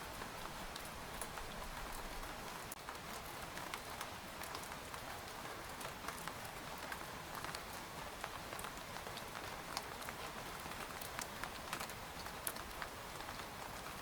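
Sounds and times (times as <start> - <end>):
rain pattering on tent fabric: 0.0 - 14.0.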